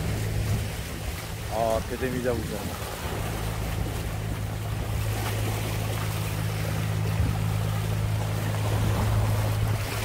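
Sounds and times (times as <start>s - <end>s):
small waves splashing against rocks: 0.0s - 10.0s
steady low hum: 0.0s - 10.0s.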